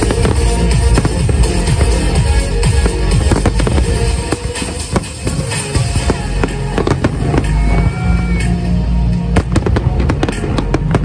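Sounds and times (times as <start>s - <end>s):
fireworks bangs and cracks: 0.0s - 8.6s, 9.3s - 11.0s
music with deep bass: 0.0s - 11.0s.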